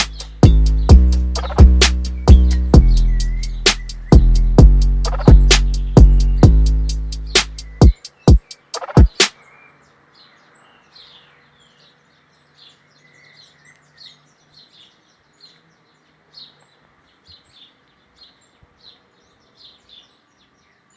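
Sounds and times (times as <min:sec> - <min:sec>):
faint bird chirps: 0:00.0 - 0:20.9
faint hiss: 0:00.0 - 0:20.9.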